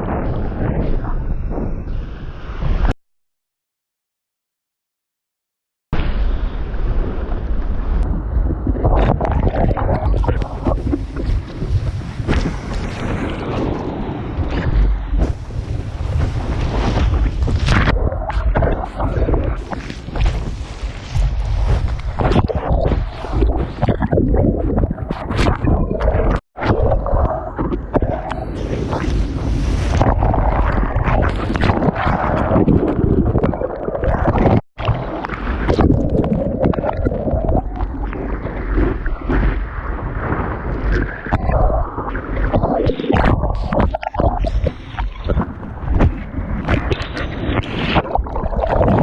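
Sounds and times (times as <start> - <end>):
wind buffeting microphone: 6.6 - 49.0
water sloshing and gurgling: 7.0 - 49.0.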